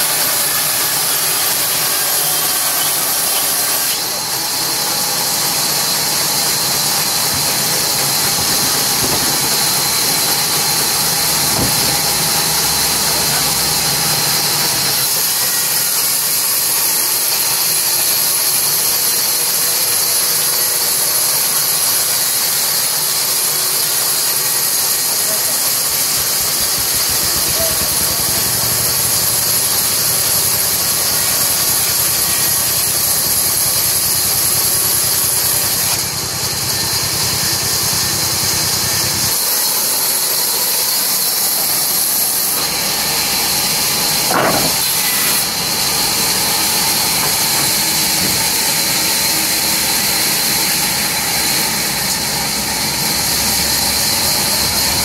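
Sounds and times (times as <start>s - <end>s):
band saw cutting timber: 0.0s - 55.0s.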